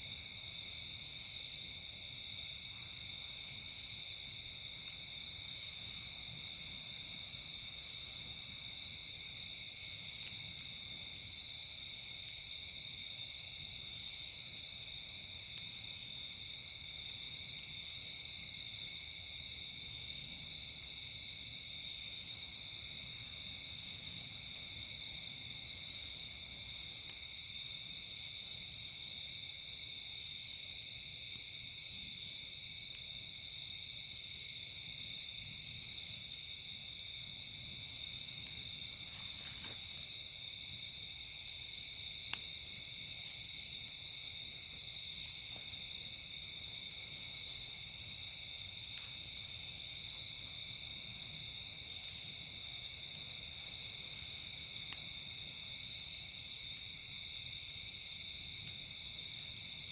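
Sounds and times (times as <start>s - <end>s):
campfire popping: 0.0s - 59.9s
crickets chirping: 0.0s - 59.9s.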